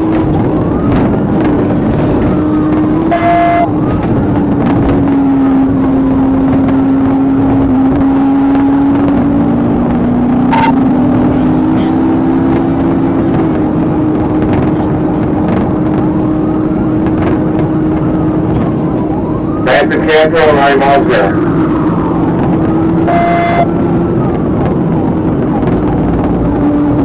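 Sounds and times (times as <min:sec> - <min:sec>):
car engine drone: 0:00.0 - 0:27.0
road and wind noise: 0:00.0 - 0:27.0.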